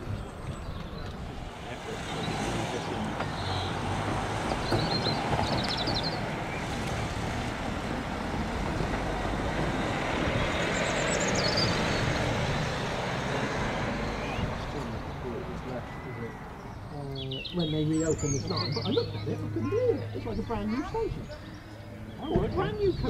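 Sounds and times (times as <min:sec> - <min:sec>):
vehicle engine rumble: 0:00.0 - 0:23.0
bird chirping: 0:00.1 - 0:07.2, 0:09.5 - 0:12.8, 0:13.6 - 0:23.0.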